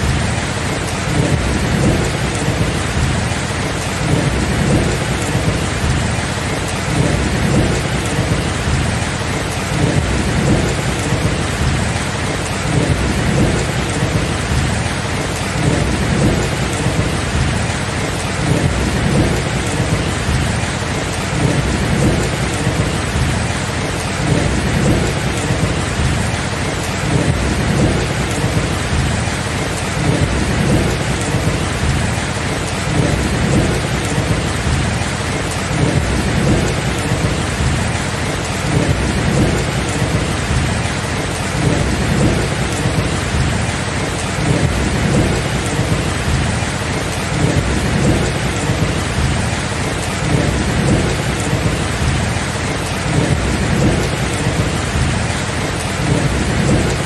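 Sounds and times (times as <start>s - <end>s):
heavy rain: 0.0s - 57.0s
low rumble of thunder: 0.0s - 57.0s.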